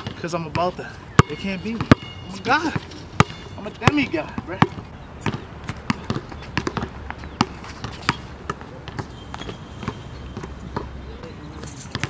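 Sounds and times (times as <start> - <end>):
basketball bouncing on court: 0.0 - 11.0.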